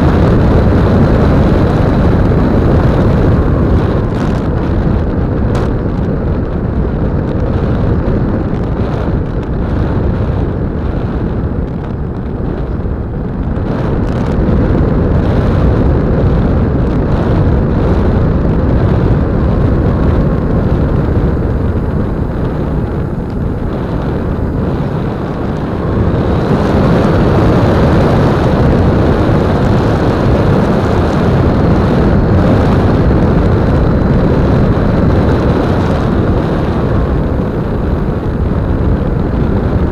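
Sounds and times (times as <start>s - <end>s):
electric motor and propeller: 0.0s - 39.9s
wind rushing over microphone: 0.0s - 39.9s.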